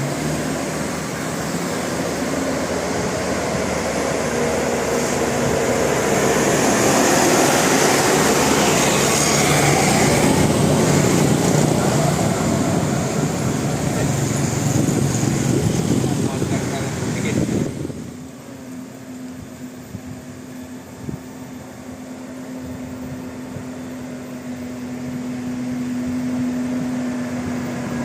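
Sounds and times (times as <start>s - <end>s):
road noise: 0.0s - 28.0s
vehicle engine: 0.0s - 28.0s.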